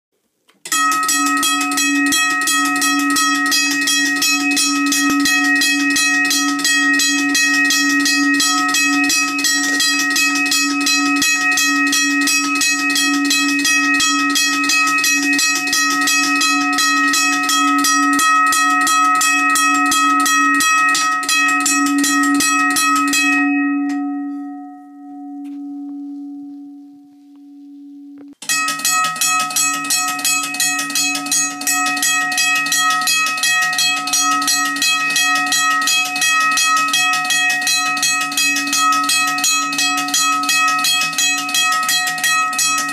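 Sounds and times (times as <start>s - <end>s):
railroad crossing bell ringing: 0.7s - 42.9s.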